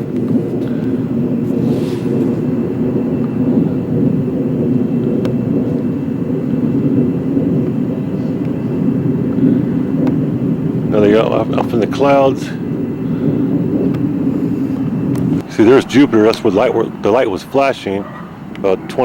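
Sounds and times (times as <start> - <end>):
jet aircraft passing overhead: 0.0 - 19.0.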